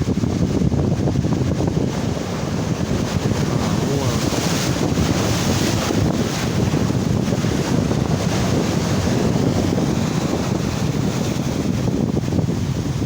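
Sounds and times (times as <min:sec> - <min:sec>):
waves washing: 0:00.0 - 0:13.0
wind buffeting the microphone: 0:00.0 - 0:13.0.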